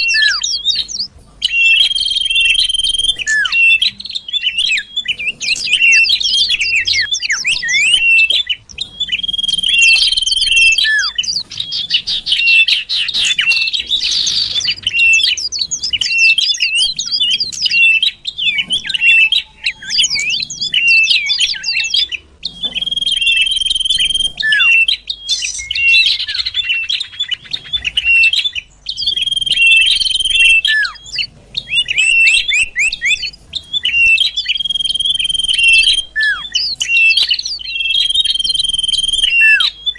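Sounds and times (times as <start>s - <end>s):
bird chirps and chatters: 0.0s - 39.9s
long whistled bird notes: 0.0s - 39.9s.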